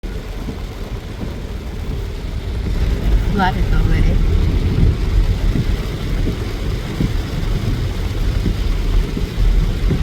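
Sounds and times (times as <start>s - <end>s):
wind buffeting microphone: 0.4s - 10.0s.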